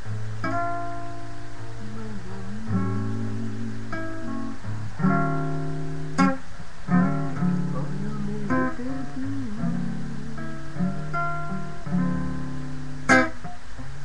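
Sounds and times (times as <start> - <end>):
acoustic guitar plucked notes: 0.0 - 14.0
guitar chords strummed: 0.0 - 14.0.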